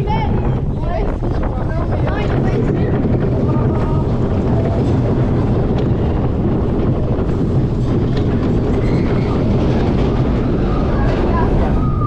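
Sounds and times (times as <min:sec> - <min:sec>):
roller coaster wheel rumble: 0:00.0 - 0:12.0.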